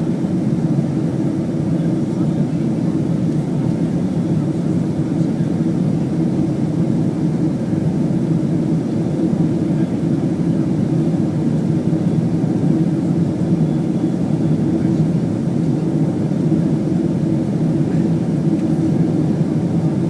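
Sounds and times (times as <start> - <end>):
jet engine and airflow drone: 0.0 - 20.0.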